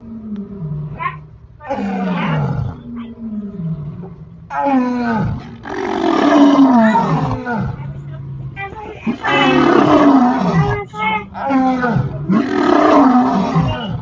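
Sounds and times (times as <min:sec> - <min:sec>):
deep animal roars: 0:00.0 - 0:14.0.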